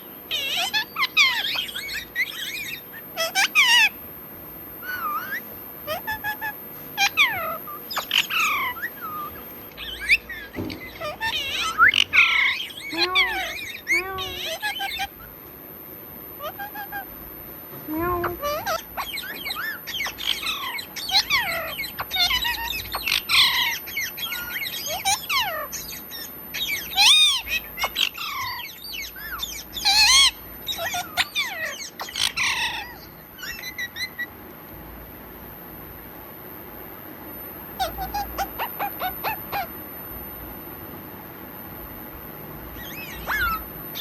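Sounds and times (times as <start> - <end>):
parrot squawking and chattering: 0.3 - 4.1, 4.8 - 15.5, 16.4 - 17.2, 17.8 - 34.4, 37.8 - 39.8, 42.7 - 44.0.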